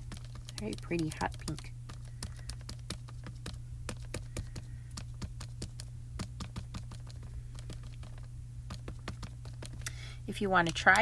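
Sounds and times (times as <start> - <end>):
low steady hum: 0.0 - 11.0
ink pad tapping on stamp: 0.1 - 9.8.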